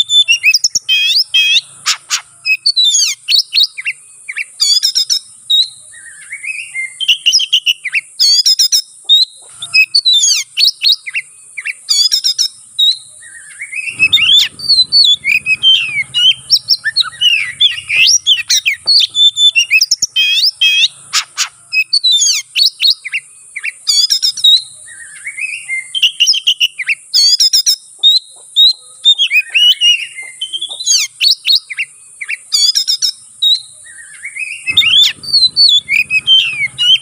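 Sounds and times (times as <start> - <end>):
bird singing chirps and trills: 0.0 - 37.0.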